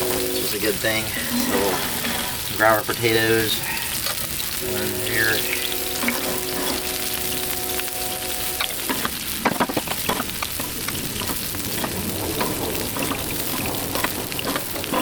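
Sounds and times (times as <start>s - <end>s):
metal spatula scraping griddle: 0.0s - 2.5s, 3.9s - 15.0s
food sizzling on a griddle: 0.0s - 15.0s.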